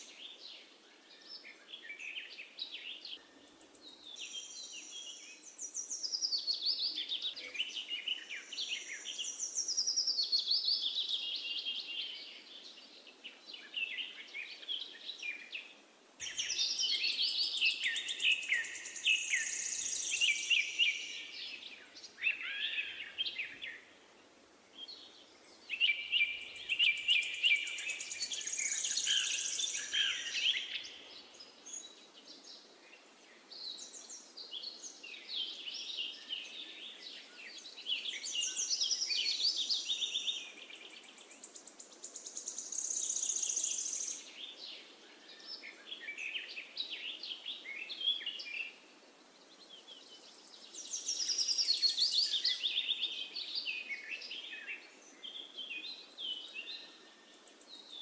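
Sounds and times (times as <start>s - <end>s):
faint steady hiss: 0.0s - 58.0s
small birds chirping and trilling: 0.0s - 58.0s.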